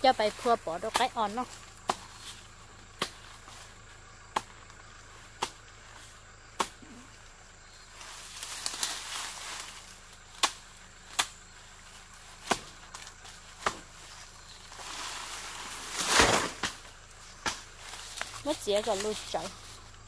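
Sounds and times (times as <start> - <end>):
dry leaves rustling: 0.0 - 20.0.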